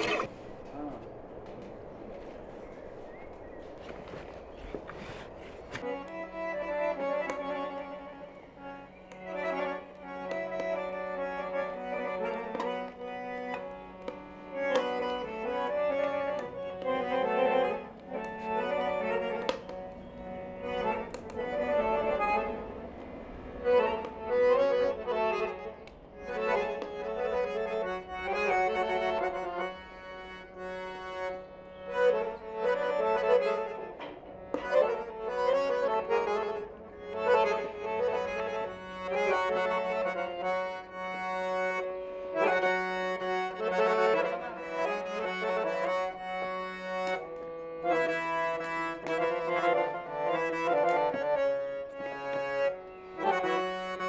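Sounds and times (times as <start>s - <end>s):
accordion melody: 0.0s - 0.3s, 4.9s - 54.0s.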